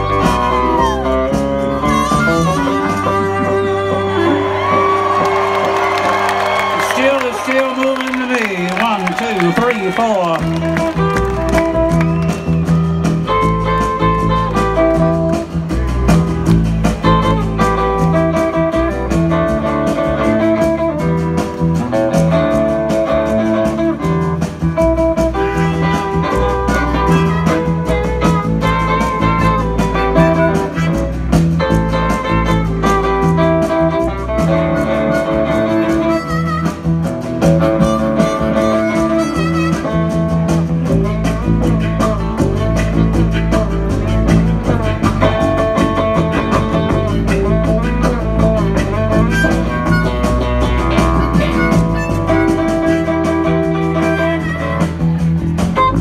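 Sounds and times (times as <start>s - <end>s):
country band playing: 0.0s - 56.0s
plucked acoustic guitar: 10.8s - 56.0s.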